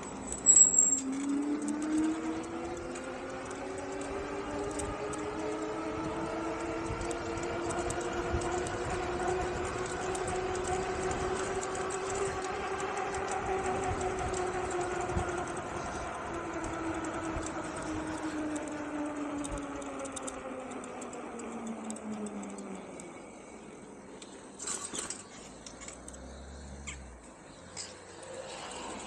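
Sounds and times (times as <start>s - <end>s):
wind: 0.0s - 29.0s.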